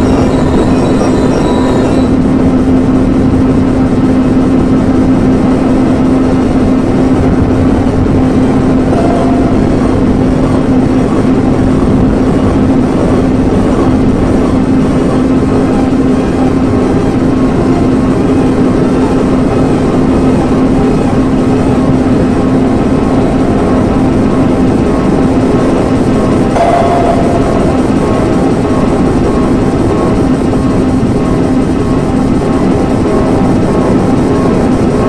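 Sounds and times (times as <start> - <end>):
electronic noise music: 0.0 - 3.6, 6.2 - 35.0
steady low tone: 0.0 - 35.0.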